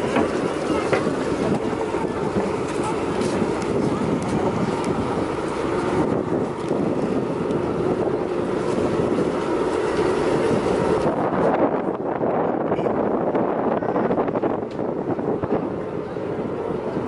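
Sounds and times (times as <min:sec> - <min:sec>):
moving vehicle rumble: 0:00.0 - 0:17.0.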